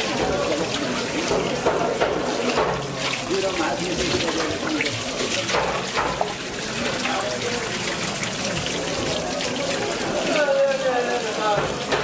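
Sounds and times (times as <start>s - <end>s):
tap water splashing in sink: 0.0s - 12.0s.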